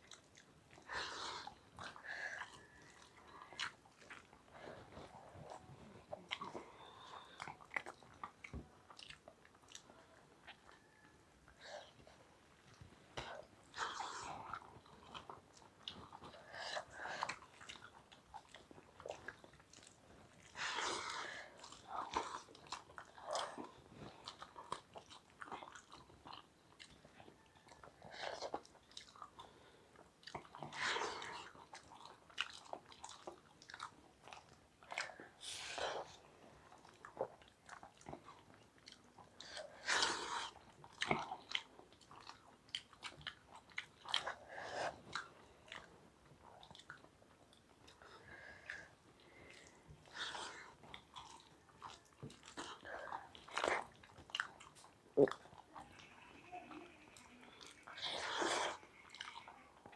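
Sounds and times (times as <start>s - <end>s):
people chewing and biting: 0.0s - 56.1s, 57.1s - 59.9s.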